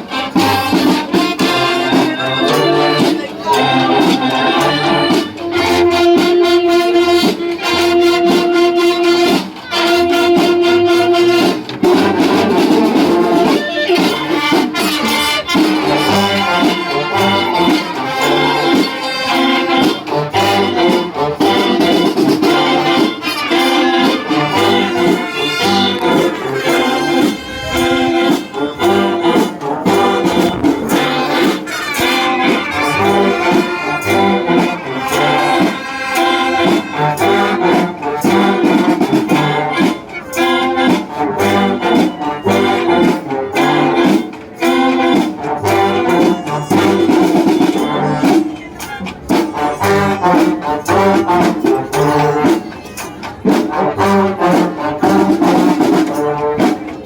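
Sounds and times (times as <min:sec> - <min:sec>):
wind band playing: 0:00.0 - 0:57.0.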